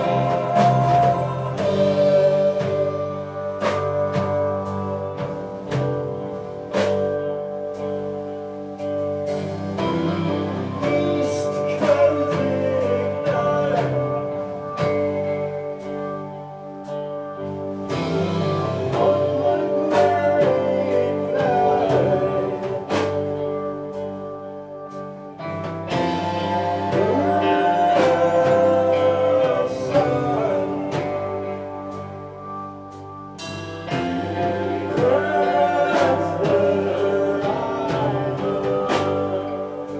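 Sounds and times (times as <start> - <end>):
person singing: 0.0 - 5.9, 9.8 - 24.2, 25.8 - 32.3, 33.8 - 39.9
distorted guitar chords: 0.0 - 39.9
rock band playing: 0.0 - 39.9.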